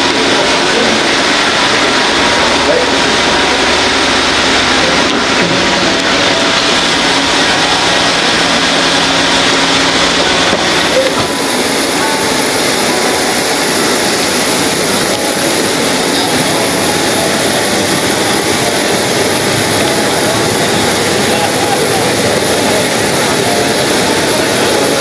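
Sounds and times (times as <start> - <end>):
jet engine roar and whine: 0.0 - 25.0.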